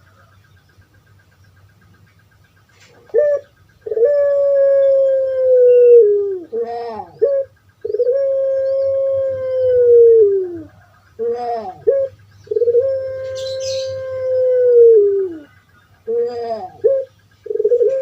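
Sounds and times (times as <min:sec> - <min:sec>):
dove cooing: 0:02.7 - 0:18.0.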